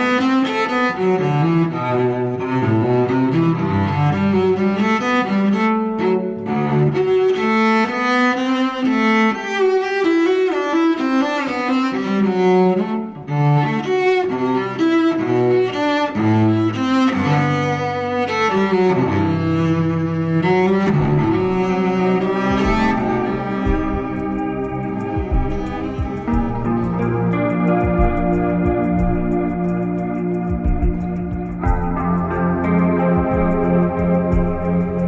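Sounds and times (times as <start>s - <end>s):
bowed strings melody: 0.0s - 35.0s.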